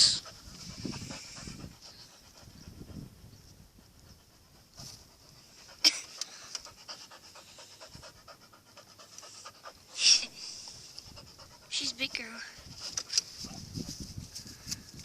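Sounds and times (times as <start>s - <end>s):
dog panting: 0.0s - 14.1s.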